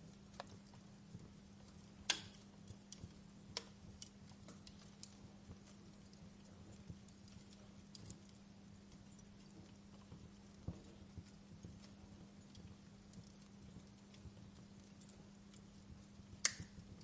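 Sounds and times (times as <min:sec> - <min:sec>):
faint low hum: 0:00.0 - 0:17.0
wood fire crackling: 0:00.0 - 0:17.0.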